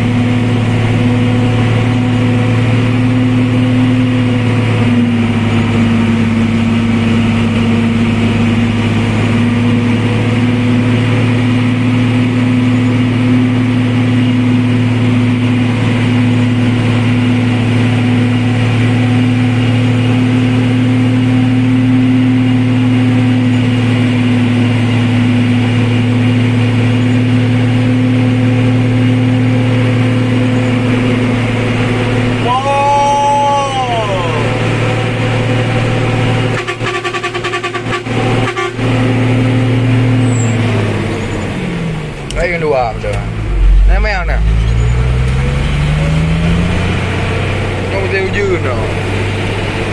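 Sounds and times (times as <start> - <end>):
vehicle engine droning: 0.0 - 49.9.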